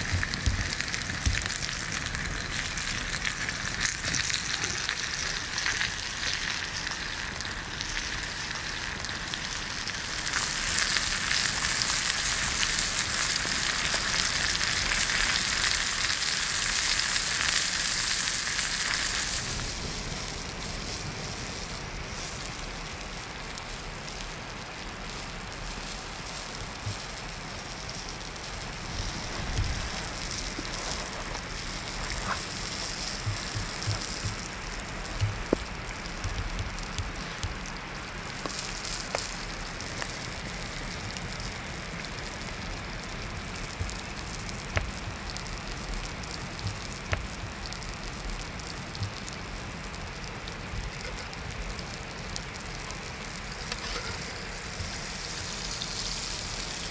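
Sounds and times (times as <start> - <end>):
campfire crackling: 0.0 - 56.9
food sizzling in a pan: 0.0 - 56.9.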